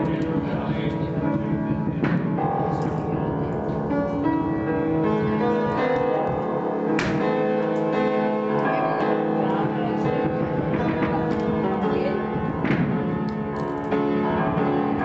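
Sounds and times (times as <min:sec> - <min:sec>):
music with long held notes: 0:00.0 - 0:15.0.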